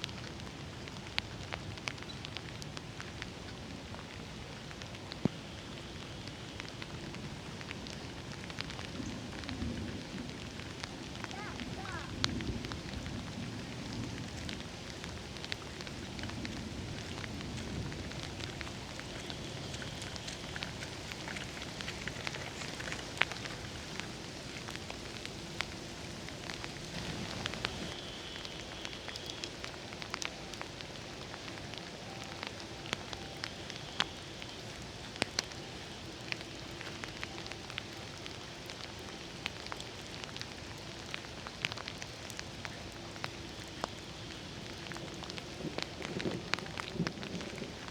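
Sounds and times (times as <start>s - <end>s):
raindrops ticking close by: 0.0s - 47.9s
steady rain falling: 0.0s - 47.9s.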